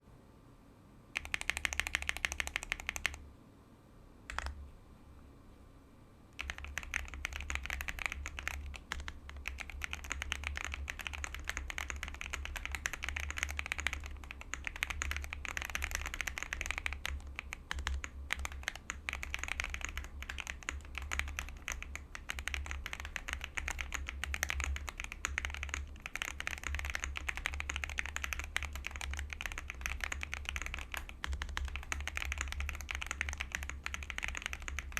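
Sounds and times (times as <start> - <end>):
mechanical keyboard typing: 1.2 - 3.2, 4.3 - 4.6, 6.4 - 34.9.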